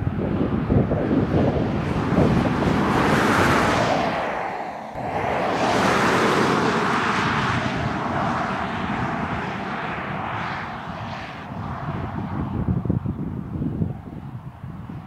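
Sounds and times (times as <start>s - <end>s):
tyres on road: 0.0s - 15.0s.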